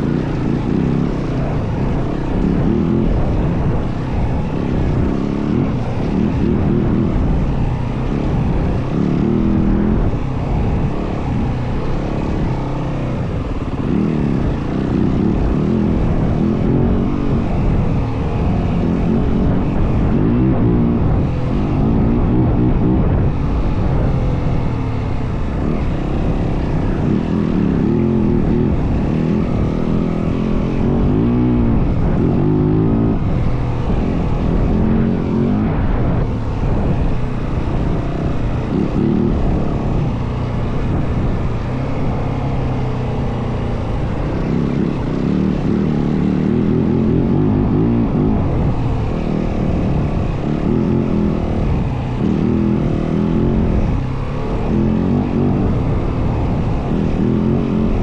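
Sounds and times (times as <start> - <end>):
dirt bike engine revving: 0.0 - 58.0
wind rushing over microphone: 0.0 - 58.0.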